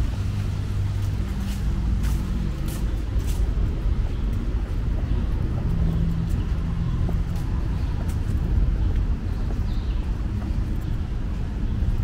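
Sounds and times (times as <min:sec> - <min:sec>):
low rumble of road traffic: 0:00.0 - 0:12.0
vehicle engine humming: 0:00.0 - 0:12.0.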